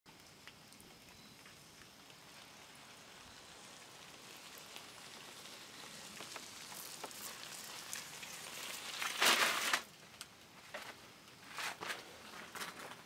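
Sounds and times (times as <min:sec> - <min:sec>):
rain falling: 0:00.1 - 0:13.0.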